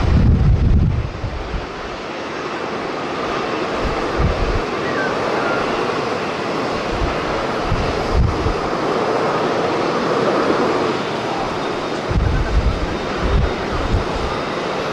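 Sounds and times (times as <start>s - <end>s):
wind buffeting microphone: 0.0s - 2.1s, 2.8s - 14.9s.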